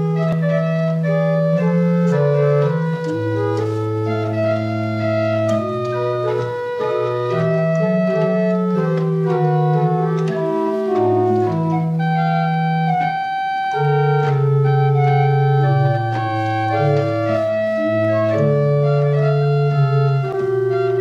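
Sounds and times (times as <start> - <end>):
pipe organ playing chords: 0.0 - 21.0.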